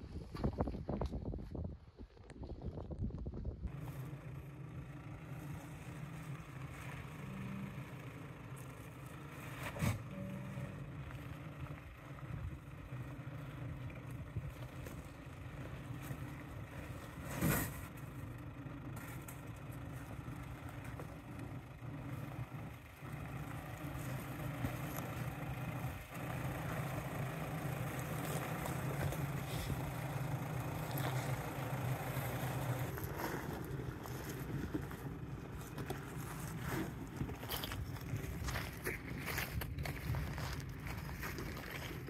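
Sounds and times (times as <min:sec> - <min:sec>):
vehicle engine drone: 0:02.2 - 0:42.0
knocks and scrapes from rough track: 0:05.2 - 0:42.0.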